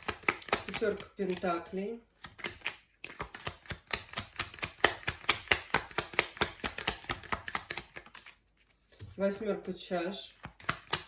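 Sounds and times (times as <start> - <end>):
cards being shuffled: 0.0 - 9.2, 10.3 - 11.0.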